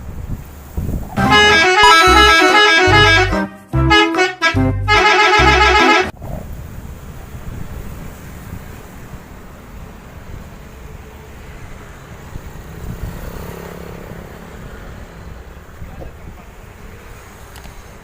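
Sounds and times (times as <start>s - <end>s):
traffic rumble: 0.0s - 3.3s, 6.1s - 18.0s.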